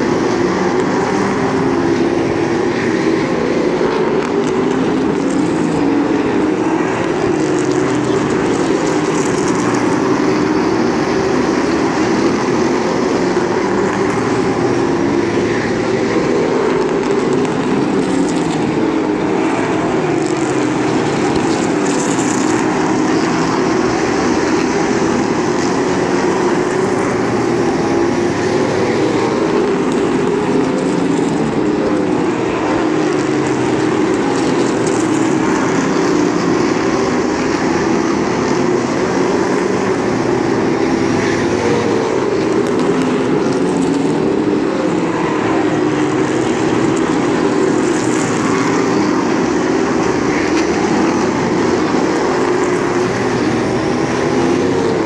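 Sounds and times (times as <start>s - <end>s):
stock car engines racing: 0.0s - 55.0s.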